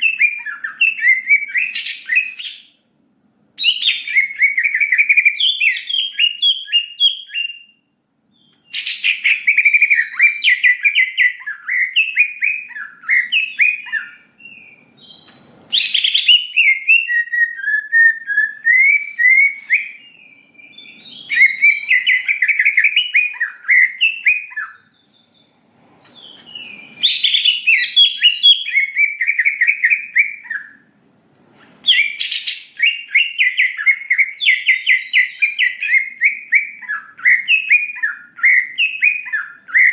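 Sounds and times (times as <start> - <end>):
bird singing chattering song: 0.0 - 2.8, 3.6 - 30.9, 31.6 - 39.9.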